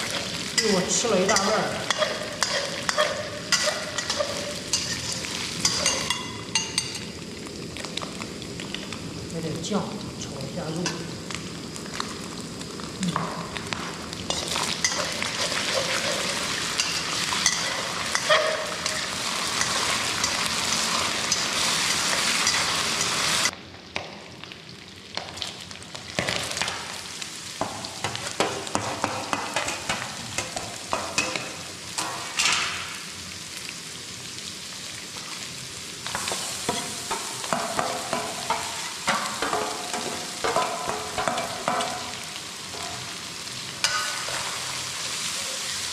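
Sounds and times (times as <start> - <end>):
meat sizzling in a pot: 0.0 - 45.9.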